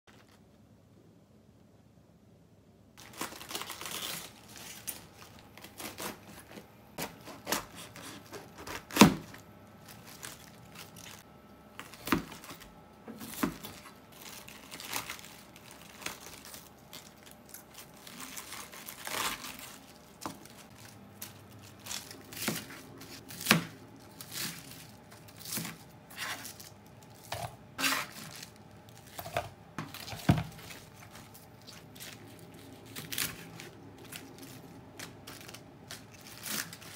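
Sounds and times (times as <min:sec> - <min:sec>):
cabbage leaves tearing: 0:03.0 - 0:12.6, 0:13.3 - 0:36.9.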